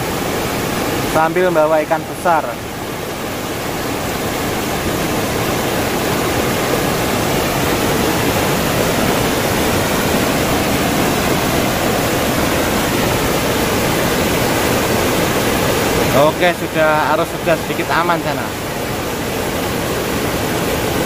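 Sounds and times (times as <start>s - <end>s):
river rushing through rapids: 0.0s - 21.0s.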